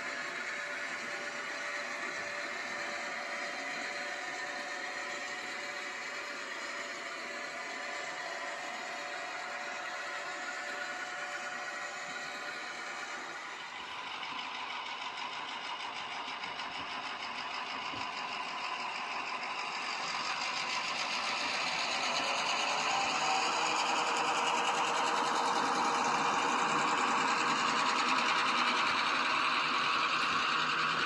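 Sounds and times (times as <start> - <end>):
model train motor whirring: 0.0 - 31.0.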